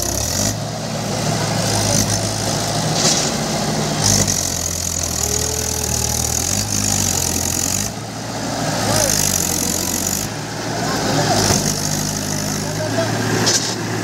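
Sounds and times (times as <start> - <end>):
diesel tractor engine under load: 0.0 - 14.0.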